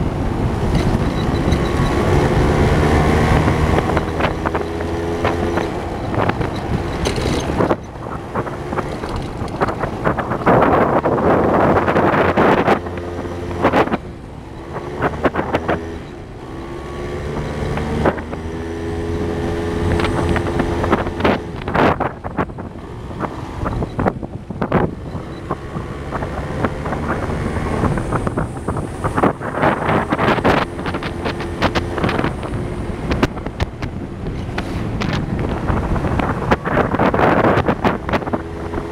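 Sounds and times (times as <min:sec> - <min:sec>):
wind rushing over microphone: 0:00.0 - 0:38.9
small motorbike engine running: 0:00.4 - 0:38.9.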